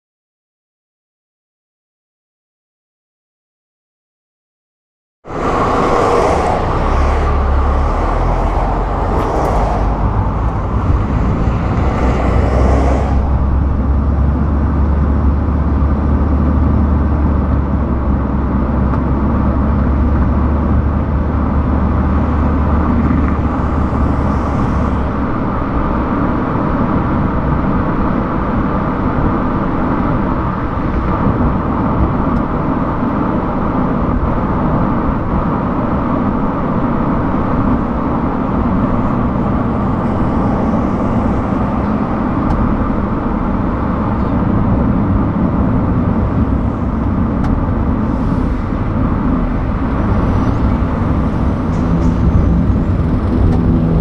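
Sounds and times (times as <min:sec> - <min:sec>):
car road and engine noise: 0:05.2 - 0:54.0
low drone: 0:05.2 - 0:54.0.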